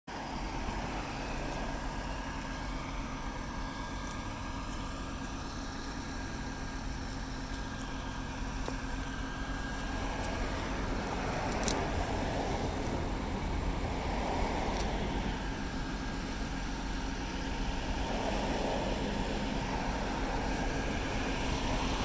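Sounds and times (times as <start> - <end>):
car engine idling: 0.1 - 22.0.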